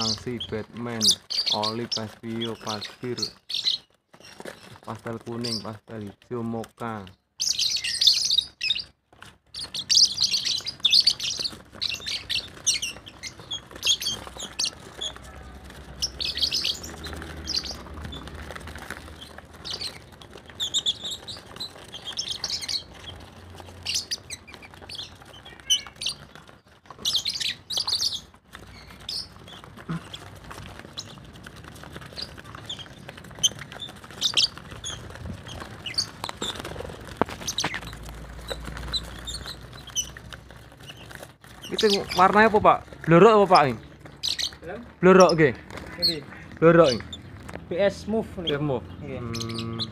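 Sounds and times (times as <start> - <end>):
lovebirds chirping: 0.0 - 49.9.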